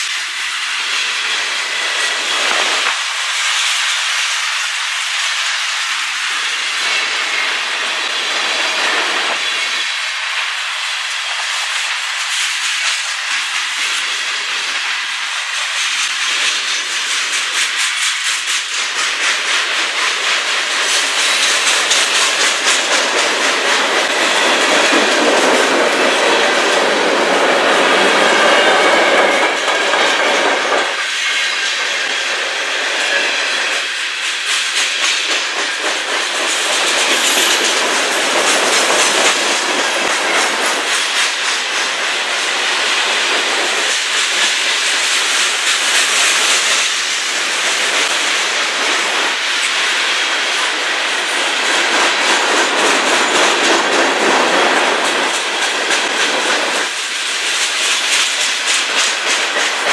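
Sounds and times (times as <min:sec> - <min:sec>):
train wheels clattering over rail joints: 0:11.2 - 0:59.9.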